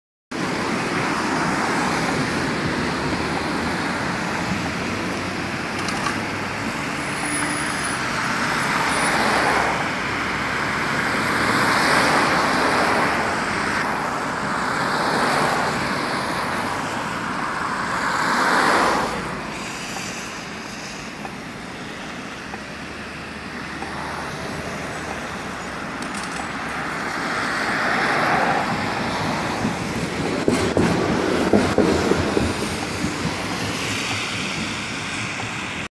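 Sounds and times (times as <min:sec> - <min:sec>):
cars passing: 0:00.3 - 0:35.9
traffic hum: 0:00.3 - 0:35.9
tram passing: 0:00.3 - 0:35.9.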